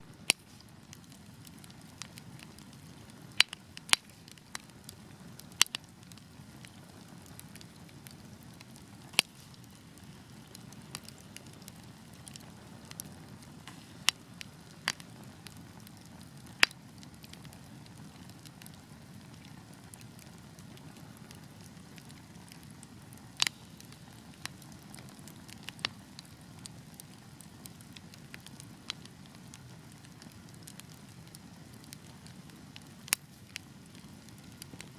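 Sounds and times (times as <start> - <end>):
fire crackling in a fireplace: 0.0 - 34.9.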